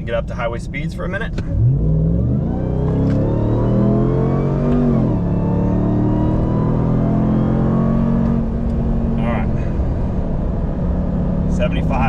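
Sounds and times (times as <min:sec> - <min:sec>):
truck engine accelerating hard: 0:01.3 - 0:12.0.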